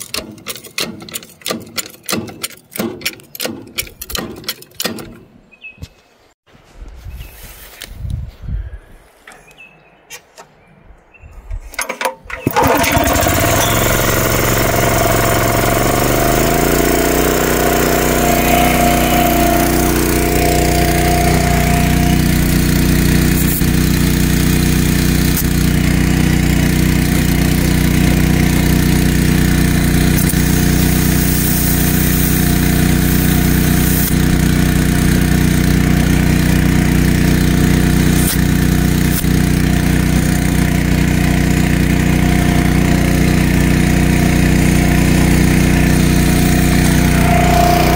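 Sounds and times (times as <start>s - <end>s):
small gas engine running: 0.0s - 3.6s, 12.2s - 47.9s.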